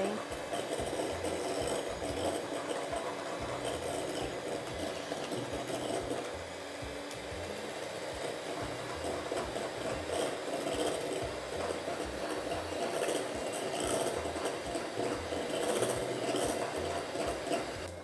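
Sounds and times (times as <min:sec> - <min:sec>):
electric hand mixer whipping cream: 0:00.0 - 0:18.0.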